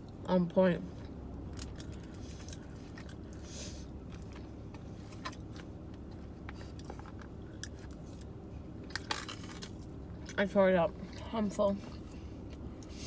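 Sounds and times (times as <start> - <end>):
low car hum: 0.0 - 13.0.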